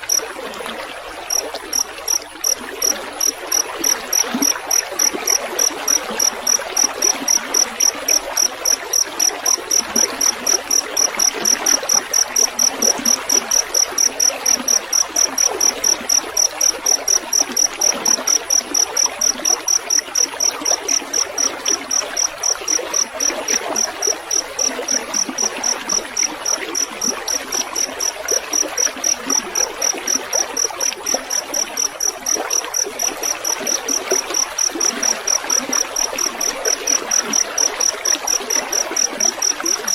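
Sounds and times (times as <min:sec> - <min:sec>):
cricket chirping: 0:00.0 - 0:39.9
running water trickling: 0:00.0 - 0:39.9.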